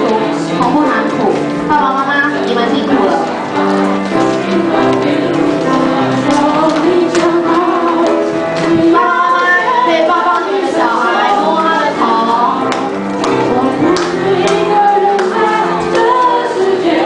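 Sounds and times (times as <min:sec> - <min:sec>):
people singing with accompaniment: 0:00.0 - 0:17.0.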